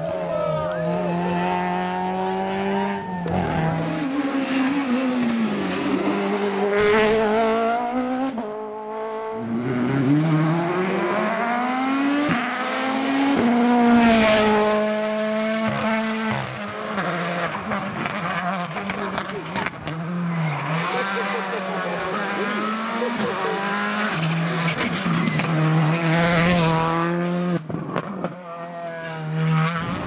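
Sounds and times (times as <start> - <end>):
car engine revving hard: 0.9 - 30.0.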